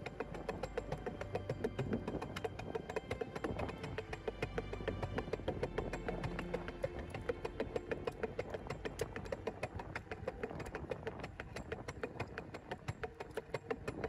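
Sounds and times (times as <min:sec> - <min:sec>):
cart rolling on concrete clicking: 0:00.0 - 0:14.0.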